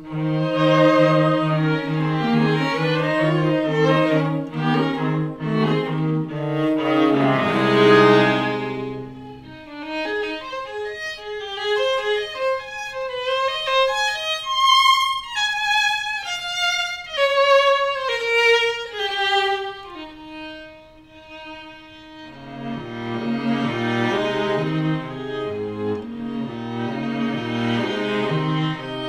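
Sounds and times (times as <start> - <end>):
string trio playing: 0.0 - 29.0
violin melody: 0.0 - 29.0.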